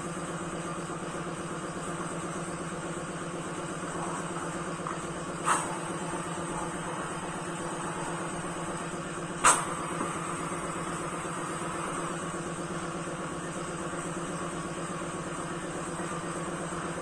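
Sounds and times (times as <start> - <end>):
pneumatic machine humming: 2.1 - 17.0.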